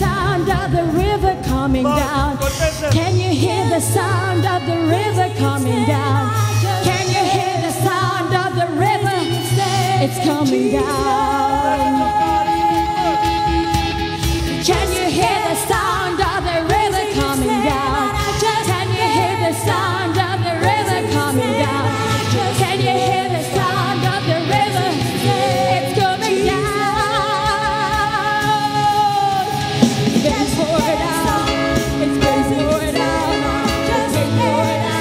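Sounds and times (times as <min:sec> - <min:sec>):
worship band playing: 0:00.0 - 0:35.0.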